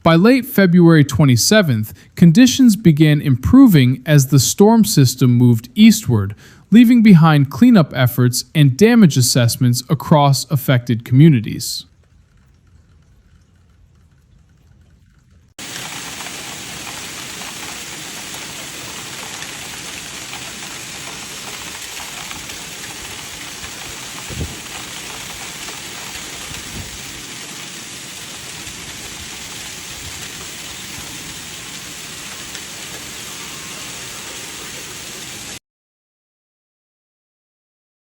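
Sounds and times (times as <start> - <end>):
heavy rain pouring: 0.0 - 35.6.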